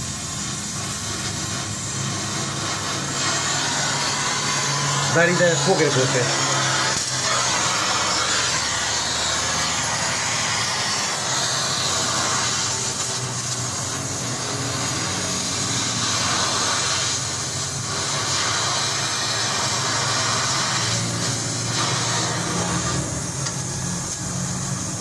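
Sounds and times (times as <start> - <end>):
welding hiss: 0.0 - 25.0.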